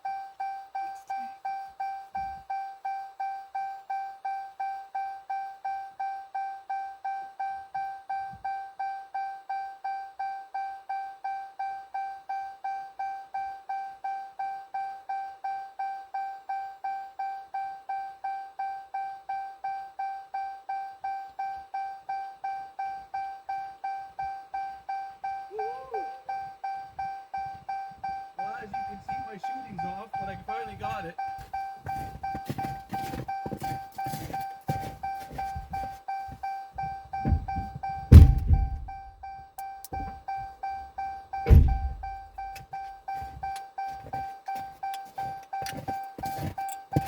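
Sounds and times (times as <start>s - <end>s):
car warning chime: 0.0s - 47.0s.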